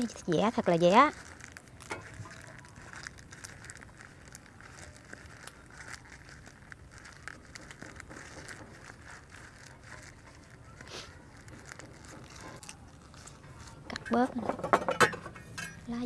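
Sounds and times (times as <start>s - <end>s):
faint crackles: 0.0s - 16.0s
leaves crinkling and rustling: 0.0s - 16.0s.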